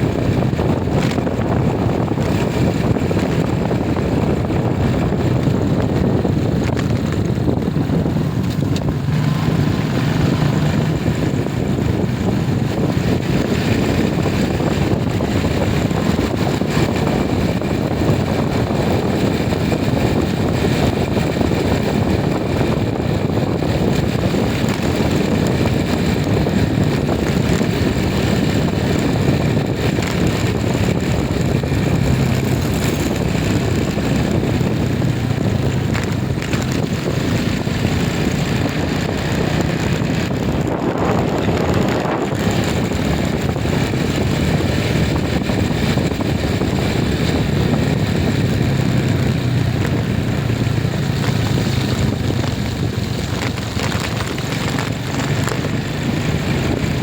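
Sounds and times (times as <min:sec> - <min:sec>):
road noise rumble: 0:00.0 - 0:57.0
vehicle engine hum: 0:00.0 - 0:57.0.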